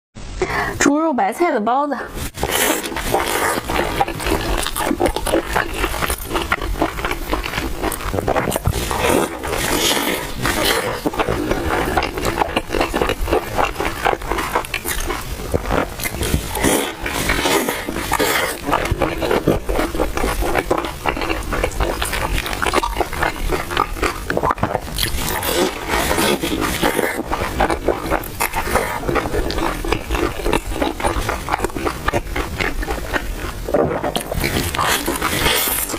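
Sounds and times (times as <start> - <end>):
crunchy chewing: 2.2 - 35.9.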